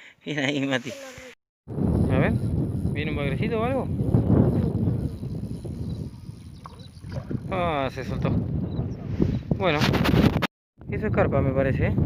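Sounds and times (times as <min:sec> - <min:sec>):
wind buffeting microphone: 0:01.7 - 0:12.0.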